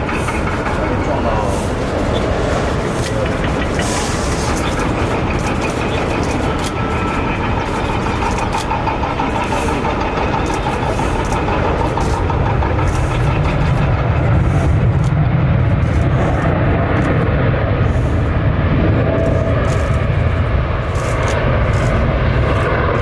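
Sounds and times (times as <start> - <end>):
deep rumble: 0.0 - 23.0
jet engine noise: 0.0 - 23.0.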